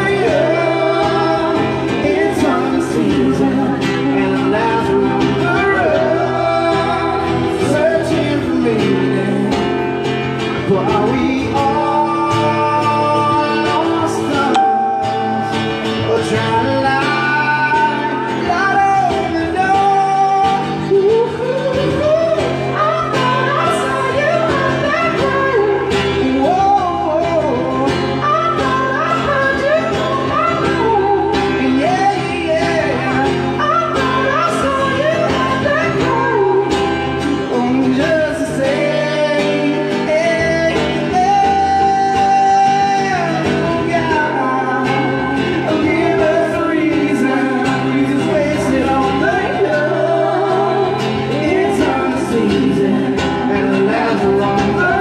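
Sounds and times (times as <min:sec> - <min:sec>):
acoustic guitar: 0:00.0 - 0:55.0
man and woman singing: 0:00.0 - 0:55.0.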